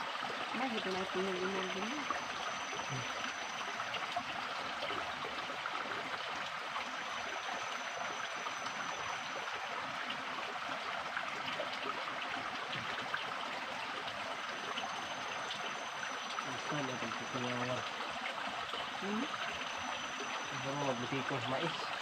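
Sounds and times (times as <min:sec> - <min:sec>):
spring water flowing: 0:00.0 - 0:22.0.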